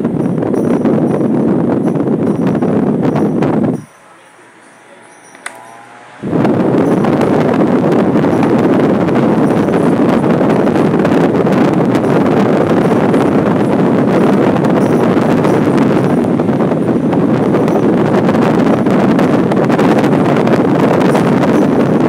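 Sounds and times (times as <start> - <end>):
fan blowing into microphone: 0.0 - 22.0.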